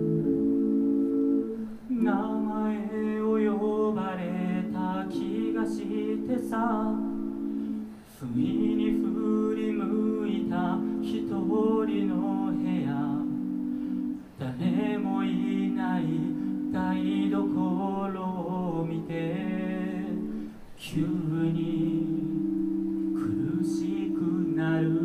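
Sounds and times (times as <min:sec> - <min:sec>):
a cappella group singing: 0:00.0 - 0:25.0.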